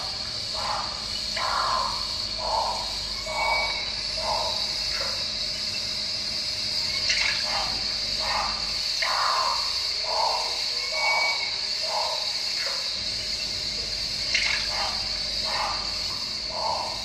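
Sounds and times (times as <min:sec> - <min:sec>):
cricket chorus chirring: 0:00.0 - 0:17.0.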